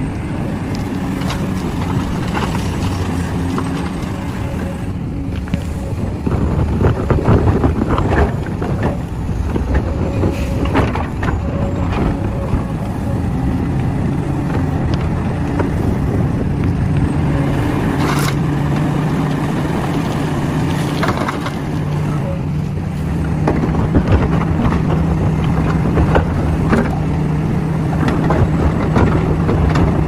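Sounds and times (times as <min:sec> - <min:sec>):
heavy machinery engine running: 0:00.0 - 0:30.0.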